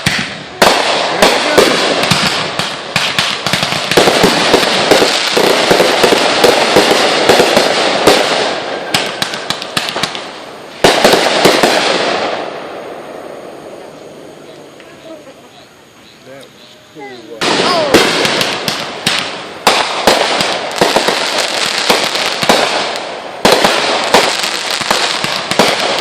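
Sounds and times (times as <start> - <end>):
fireworks crackling and banging: 0.0 - 26.0.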